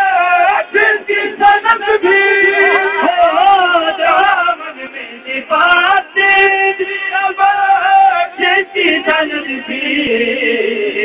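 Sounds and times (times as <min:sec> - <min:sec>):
man singing long held notes: 0:00.0 - 0:11.0.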